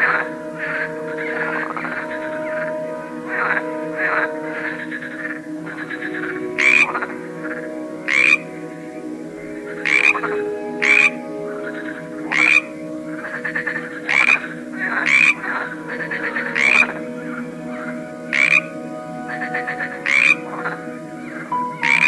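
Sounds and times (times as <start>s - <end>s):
loud frog calling: 0.0s - 9.0s, 9.6s - 20.7s, 21.4s - 22.0s
chorus of frogs: 0.0s - 22.0s.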